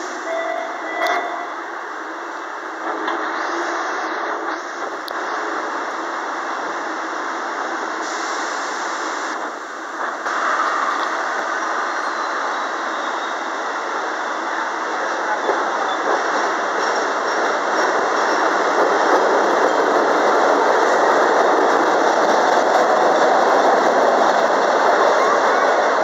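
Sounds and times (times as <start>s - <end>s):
subway train pulling out: 0.0s - 26.0s.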